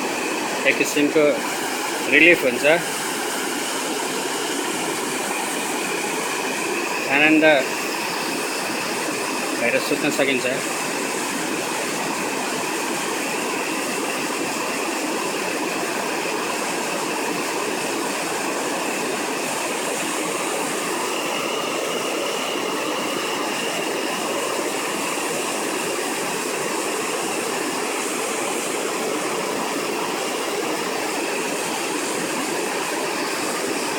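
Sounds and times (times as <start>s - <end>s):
waterfall roaring: 0.0s - 13.7s, 19.7s - 33.9s.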